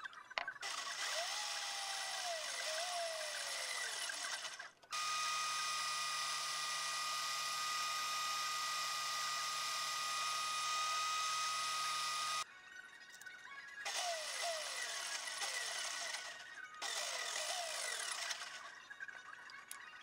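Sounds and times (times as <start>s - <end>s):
electric power tool motor whine: 0.6s - 12.5s, 13.9s - 18.7s.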